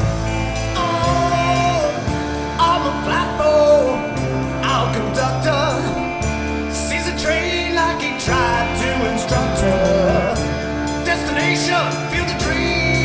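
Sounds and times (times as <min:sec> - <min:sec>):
bending lead guitar melody: 0:00.0 - 0:13.0
held bass notes: 0:00.0 - 0:13.0.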